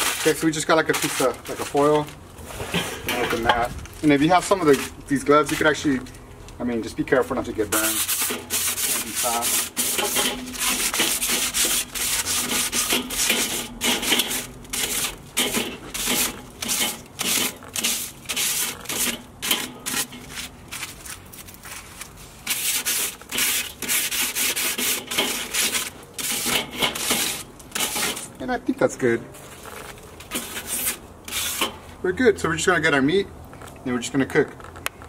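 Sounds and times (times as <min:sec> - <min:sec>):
foil scraping metal grill grate: 0:00.0 - 0:06.0, 0:07.2 - 0:28.4, 0:29.4 - 0:32.0.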